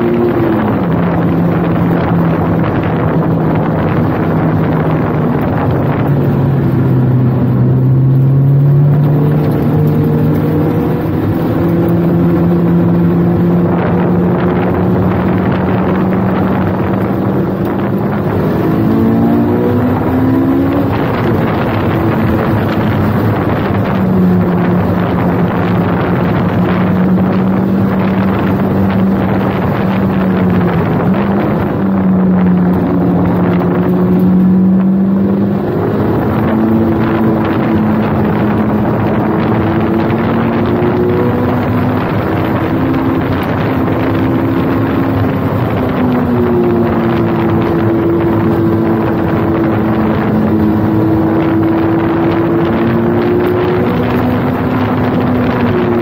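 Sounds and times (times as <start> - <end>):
car engine revving: 0.0 - 56.0
wind noise: 0.0 - 56.0.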